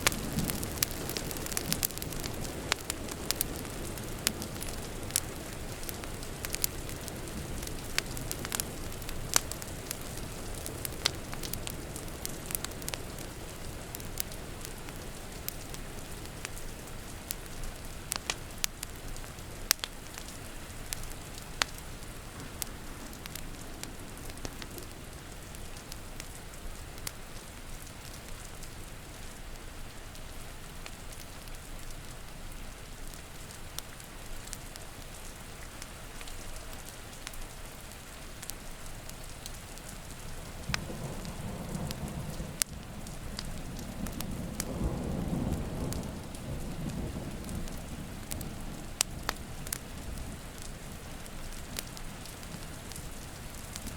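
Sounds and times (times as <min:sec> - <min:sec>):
rain patter: 0:00.0 - 0:53.9
wood fire crackling and popping: 0:00.0 - 0:53.9.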